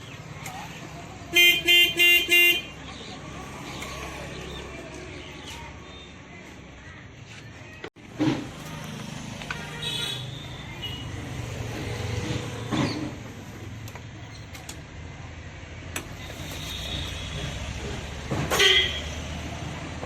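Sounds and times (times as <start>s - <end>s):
traffic engine hum: 0.0s - 20.0s.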